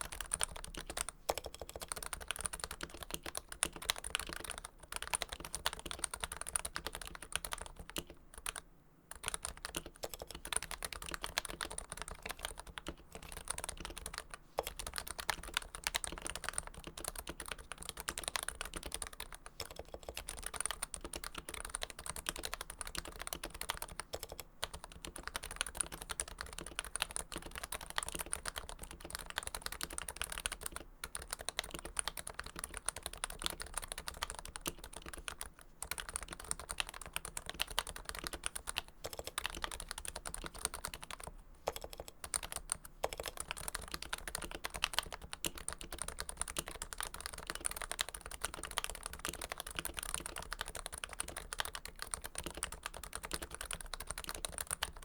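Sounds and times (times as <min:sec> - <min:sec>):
typing on a keyboard: 0:00.0 - 0:55.0.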